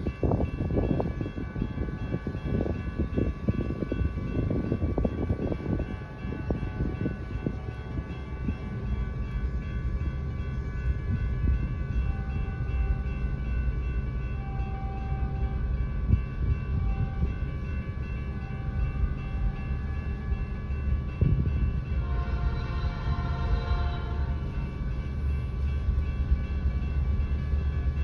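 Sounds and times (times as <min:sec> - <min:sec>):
train cars rumbling: 0:00.0 - 0:28.0
train clanks: 0:00.0 - 0:28.0.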